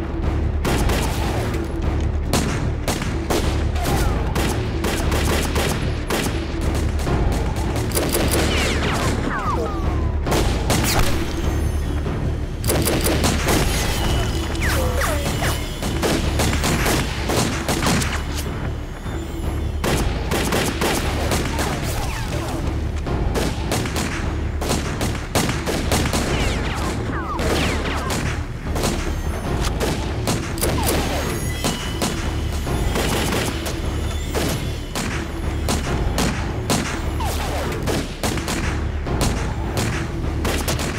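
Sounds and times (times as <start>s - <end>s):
dramatic background music: 0.0s - 40.9s.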